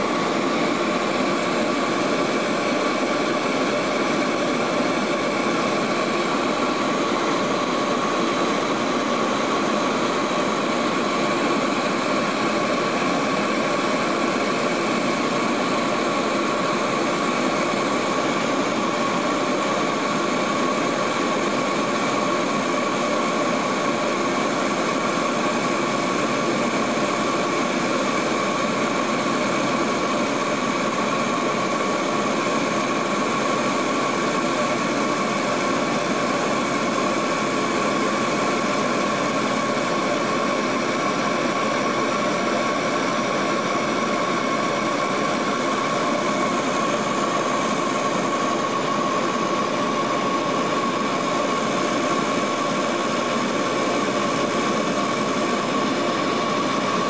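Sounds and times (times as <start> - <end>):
steady whine: 0.0 - 57.0
turboprop cabin drone: 0.0 - 57.0.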